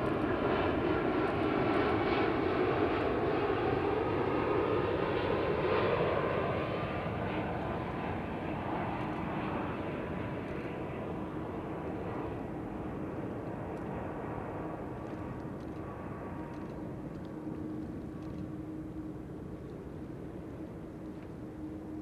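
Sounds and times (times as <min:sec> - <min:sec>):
airliner jet engine noise: 0:00.0 - 0:22.0.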